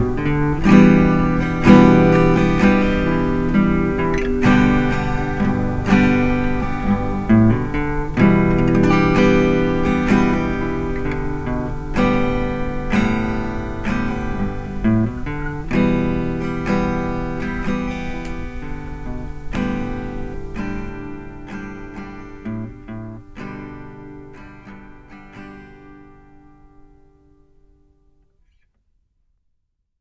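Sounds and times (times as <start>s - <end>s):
acoustic guitar strummed and plucked: 0.0s - 28.7s.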